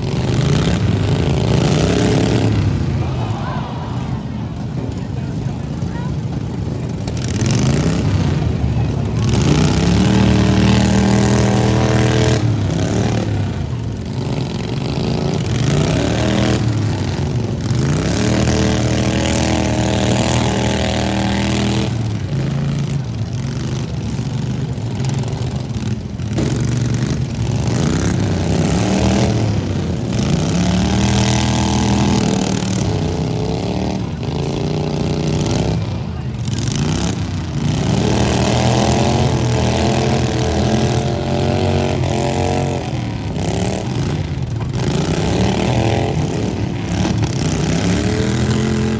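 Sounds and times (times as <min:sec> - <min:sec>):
lawn mower engines revving: 0:00.0 - 0:48.9.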